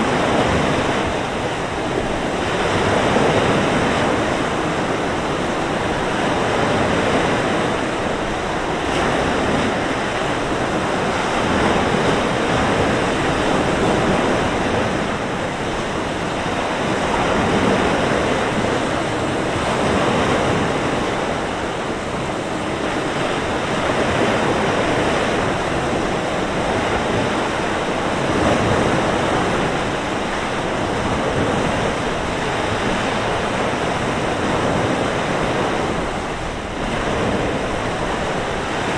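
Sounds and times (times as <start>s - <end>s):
surf breaking on beach: 0.0s - 38.9s
wind blowing: 0.0s - 38.9s.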